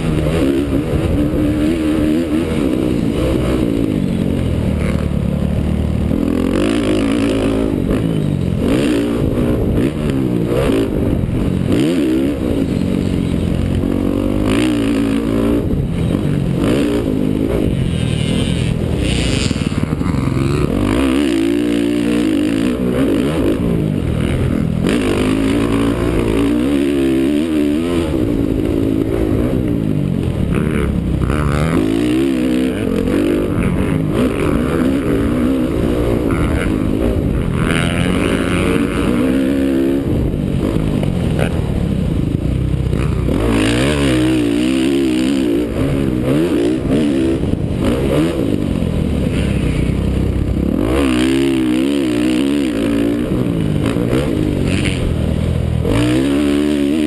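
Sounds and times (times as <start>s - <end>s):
motorcycle engine revving hard: 0.0s - 57.0s.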